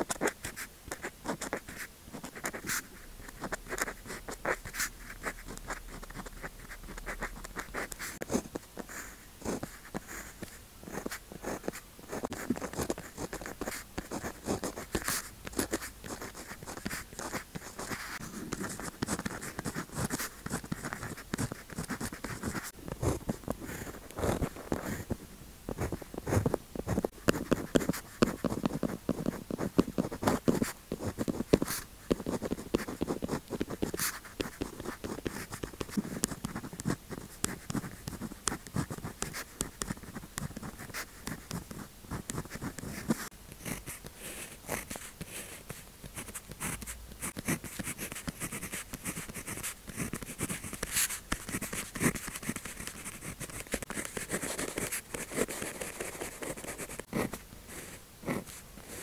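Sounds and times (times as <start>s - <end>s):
pen scratching on paper: 0.0s - 59.0s.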